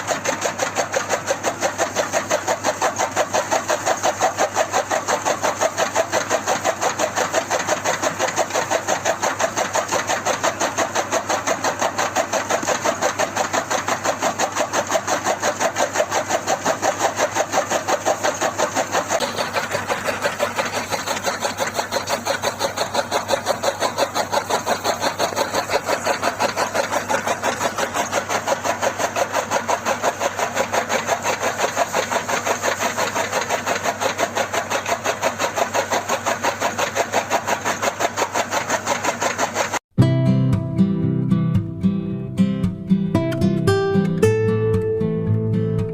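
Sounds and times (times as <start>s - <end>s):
tractor engine idling: 0.1s - 39.7s.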